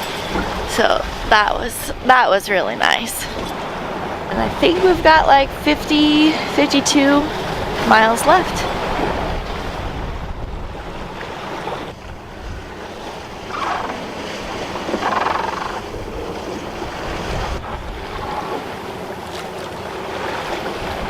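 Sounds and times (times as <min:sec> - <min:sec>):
water splashing along a boat hull: 0:00.0 - 0:21.0
wind buffeting the microphone: 0:00.2 - 0:19.0, 0:20.0 - 0:21.0.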